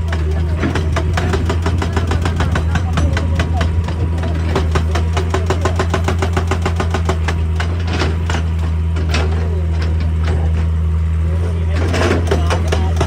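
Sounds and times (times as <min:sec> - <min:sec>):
excavator diesel engine running: 0:00.0 - 0:13.0
hydraulic rock breaker hammering: 0:00.0 - 0:13.0.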